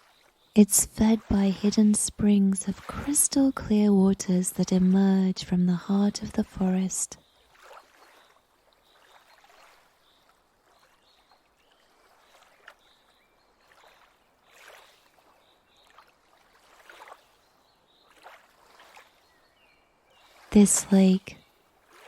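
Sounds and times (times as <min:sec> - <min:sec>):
water lapping against shore: 0:00.0 - 0:22.0.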